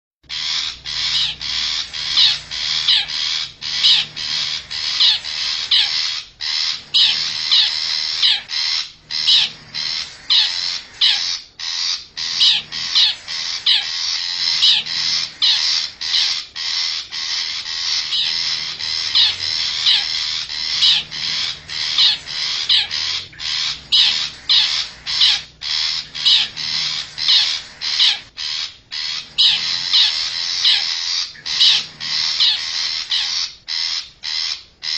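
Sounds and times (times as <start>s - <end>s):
shrike calling: 0.2s - 34.9s.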